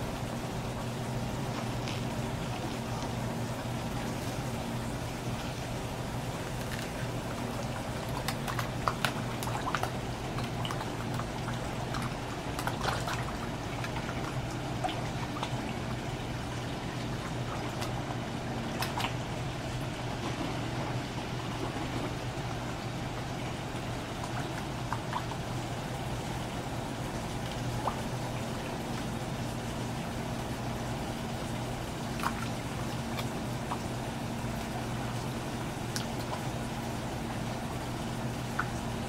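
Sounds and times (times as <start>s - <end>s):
fish splashing and slurping: 0.0s - 39.0s
pond water trickling: 0.0s - 39.0s
steady low hum: 0.0s - 39.0s.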